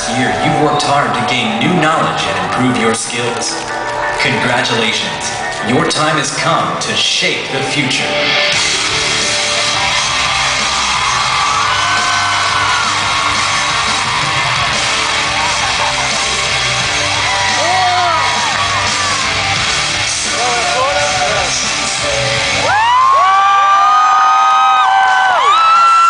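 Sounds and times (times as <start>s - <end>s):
crowd yelling and whooping: 0.0s - 6.4s, 8.2s - 26.0s
loud music with steady beat: 0.0s - 23.8s.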